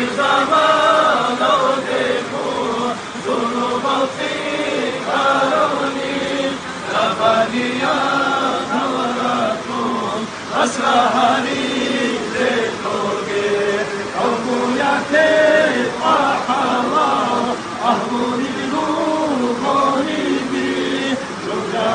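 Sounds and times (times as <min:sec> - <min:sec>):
men chanting: 0:00.0 - 0:21.9.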